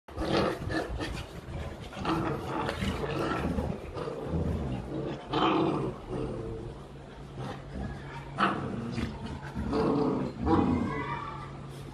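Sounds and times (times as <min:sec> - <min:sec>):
dogs growling: 0:00.1 - 0:11.1.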